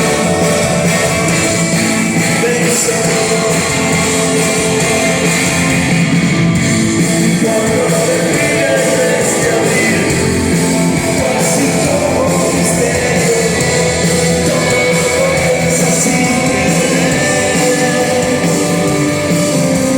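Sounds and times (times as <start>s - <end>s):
person singing: 0.0s - 19.9s
rock song on electric guitar: 0.0s - 19.9s.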